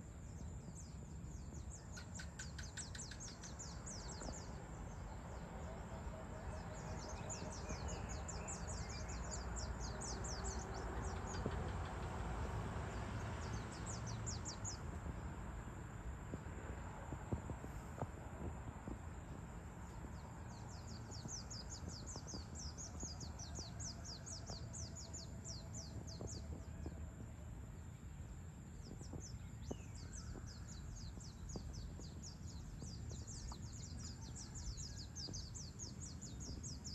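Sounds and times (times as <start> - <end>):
low outdoor rumble: 0.0 - 36.9.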